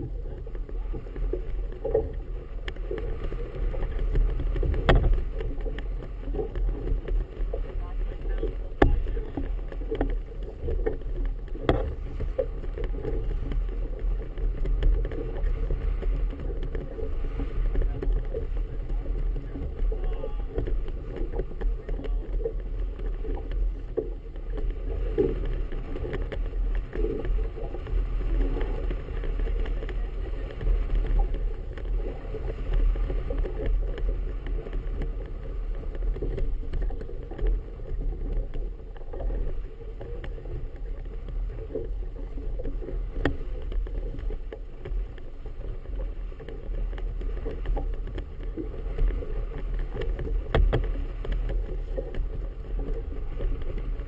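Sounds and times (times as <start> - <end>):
water slapping boat hull: 0.0 - 54.0
wind rumbling on microphone: 0.0 - 54.0.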